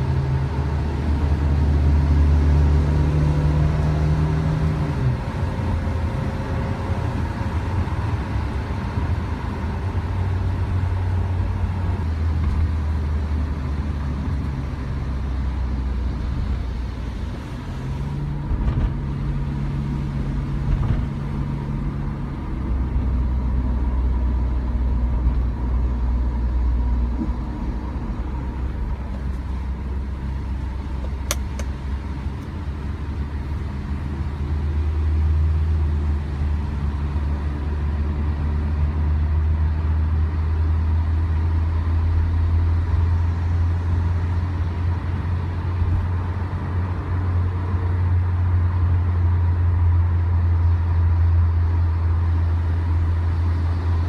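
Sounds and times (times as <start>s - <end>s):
car cabin road and engine drone: 0.0s - 54.0s.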